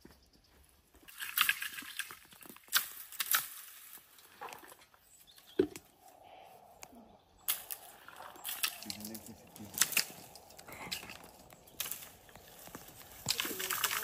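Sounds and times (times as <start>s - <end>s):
olives pattering down: 1.0s - 14.0s
wooden poles beating branches: 1.1s - 6.0s, 7.4s - 14.0s
leaf rustle: 1.2s - 14.0s.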